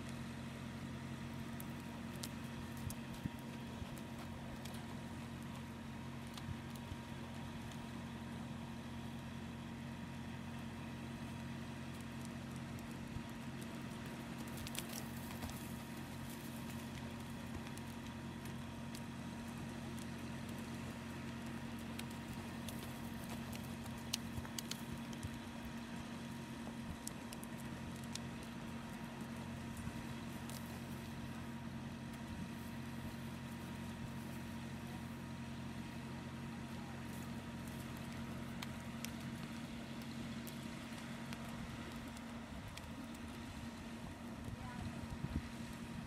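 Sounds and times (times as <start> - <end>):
low engine hum: 0.0 - 46.0.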